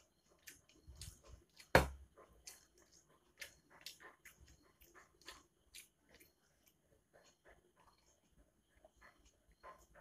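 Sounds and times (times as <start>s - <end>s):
chewing and lip-smacking: 0.0s - 10.0s.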